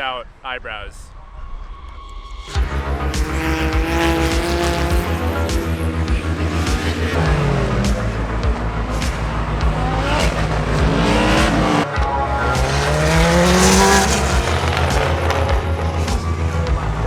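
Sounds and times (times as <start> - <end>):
race car engines accelerating: 2.5 - 17.0.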